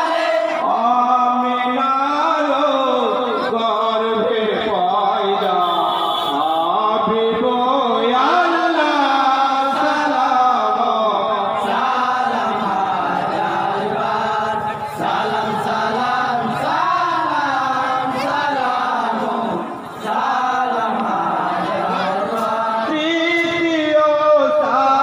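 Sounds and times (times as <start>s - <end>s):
men chanting: 0.0s - 25.0s.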